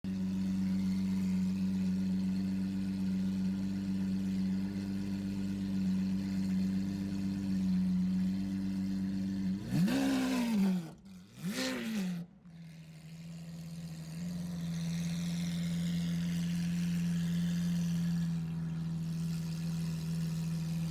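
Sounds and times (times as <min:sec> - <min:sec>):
car engine idling: 0:00.1 - 0:09.8, 0:12.2 - 0:20.9.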